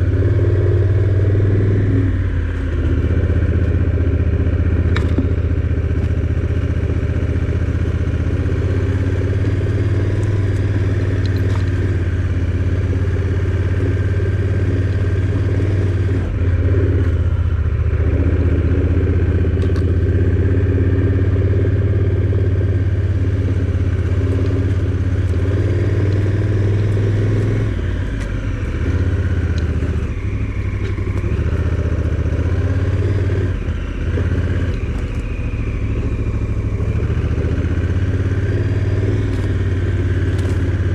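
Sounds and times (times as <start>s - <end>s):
road noise: 0.0s - 40.9s
vehicle engine running: 0.0s - 40.9s.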